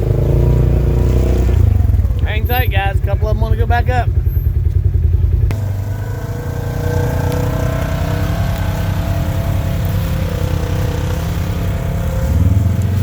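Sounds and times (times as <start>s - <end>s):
off-road vehicle engine throbbing: 0.0s - 13.0s.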